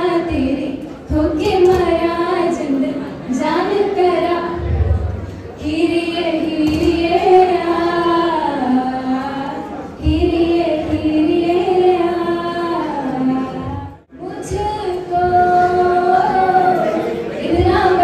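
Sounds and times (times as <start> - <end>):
women singing into microphones: 0.0 - 18.0.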